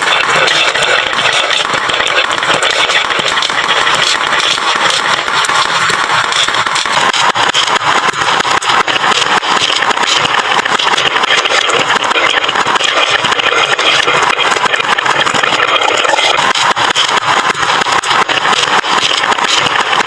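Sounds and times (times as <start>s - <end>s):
marbles rattling down wooden run: 0.0s - 20.0s.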